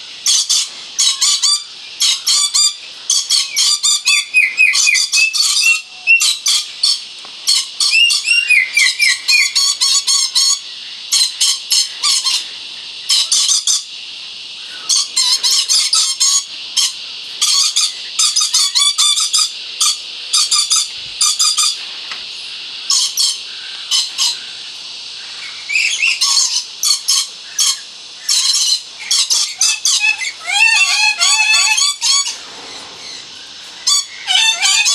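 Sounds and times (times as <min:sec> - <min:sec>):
parrots screeching: 0:00.2 - 0:12.4, 0:14.8 - 0:21.8, 0:22.9 - 0:24.4, 0:25.4 - 0:34.9.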